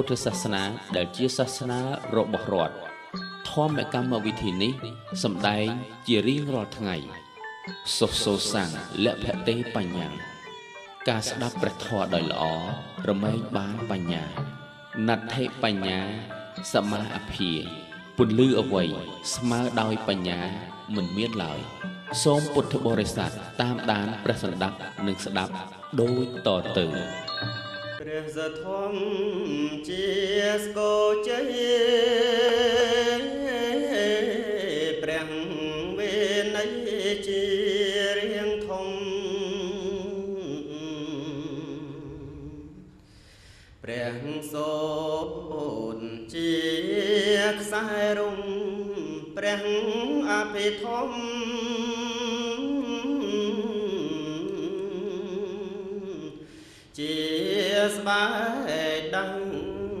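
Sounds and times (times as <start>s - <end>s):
person chanting melodically: 0.0s - 43.0s, 43.8s - 60.0s.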